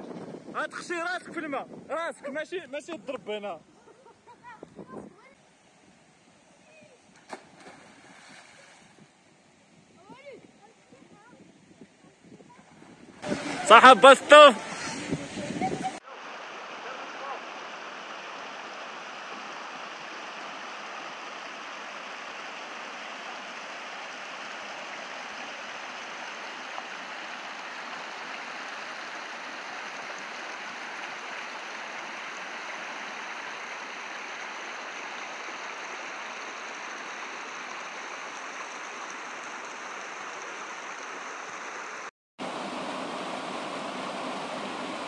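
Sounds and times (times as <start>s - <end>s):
stream running over rocks: 4.4s - 45.0s.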